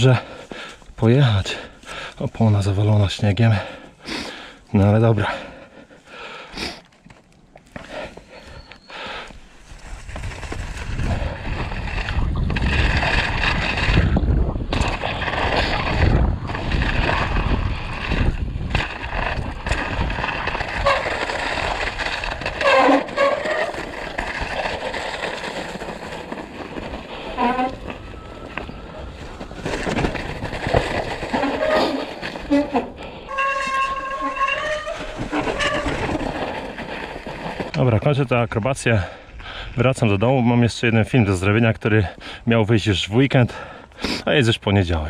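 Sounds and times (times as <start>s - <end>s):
bike rattling over bumps: 0.0s - 39.2s
bike tyres rolling through snow: 0.0s - 44.0s.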